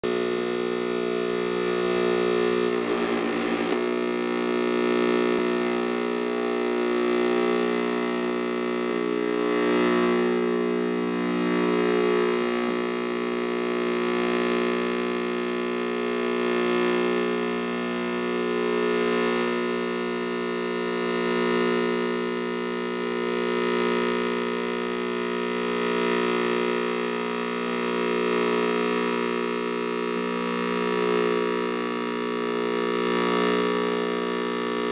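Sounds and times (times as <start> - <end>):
glitchy electronic buzzing drone: 0.0 - 34.9.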